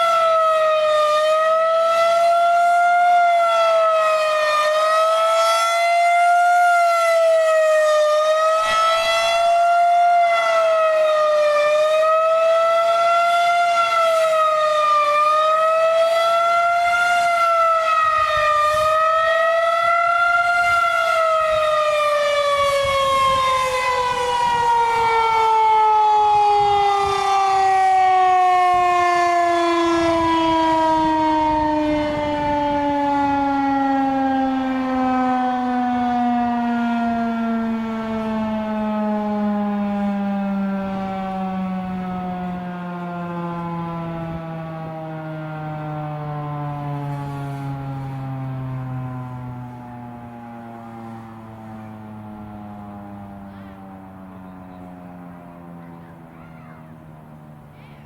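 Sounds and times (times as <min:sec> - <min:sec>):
warning siren wailing: 0:00.0 - 0:58.0.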